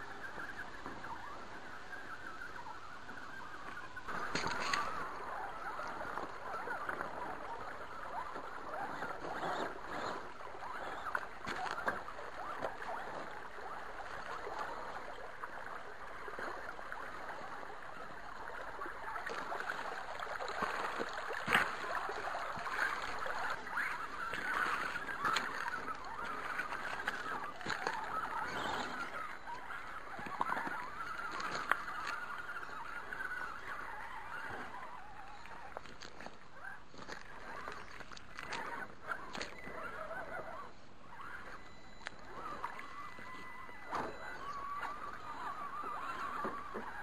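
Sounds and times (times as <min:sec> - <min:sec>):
creek water babbling: 0:00.0 - 0:47.0.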